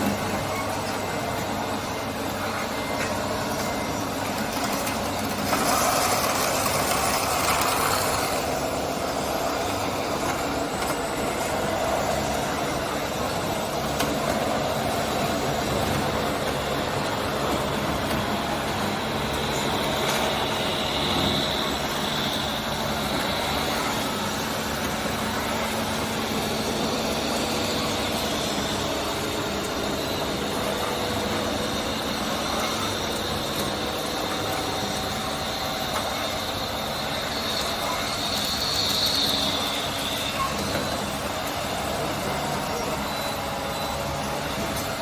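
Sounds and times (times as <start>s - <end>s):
toy vehicle motor whine: 3.6s - 16.2s, 19.6s - 44.8s.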